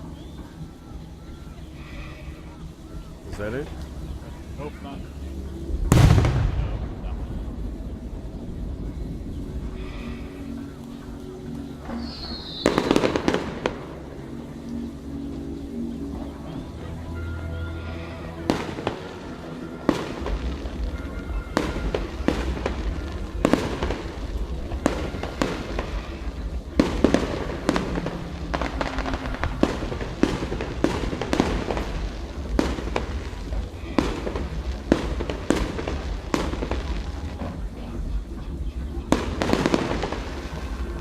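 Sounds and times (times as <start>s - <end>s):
low steady rumble: 0.0s - 12.1s, 12.7s - 41.0s
fireworks bangs and crackling: 1.5s - 41.0s.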